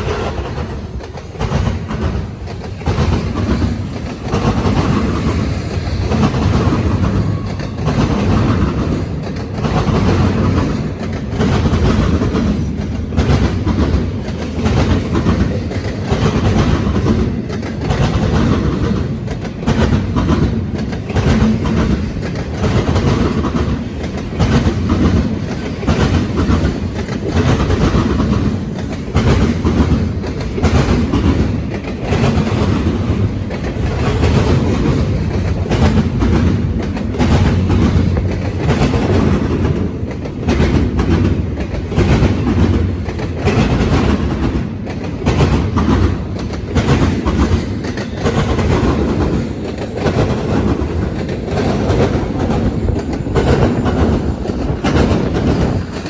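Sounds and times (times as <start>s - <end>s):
freight train wheels clacking: 0.0s - 56.0s.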